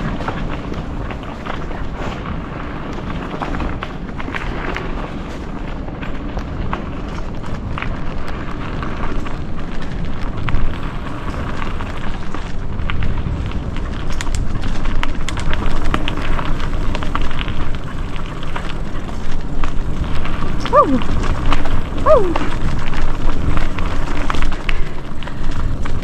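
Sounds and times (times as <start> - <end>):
bike clicking and rattling: 0.0 - 26.0
bike tyres on dirt: 0.0 - 26.0
wind buffeting microphone: 0.0 - 26.0.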